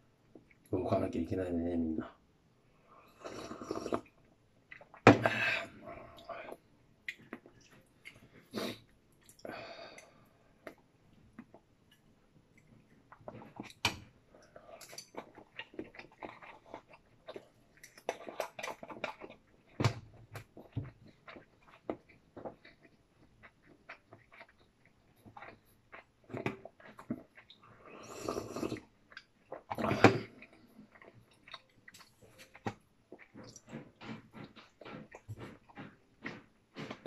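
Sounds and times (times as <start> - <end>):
chewing with smacks and clicks: 0.2 - 0.7, 3.2 - 37.0.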